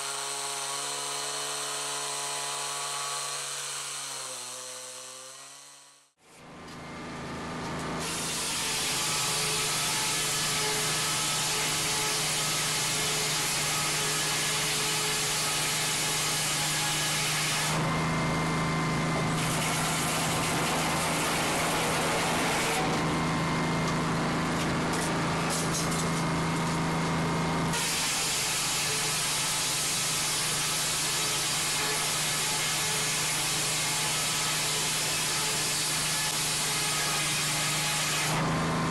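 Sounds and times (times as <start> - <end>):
chainsaw running at high speed: 6.8 - 38.9.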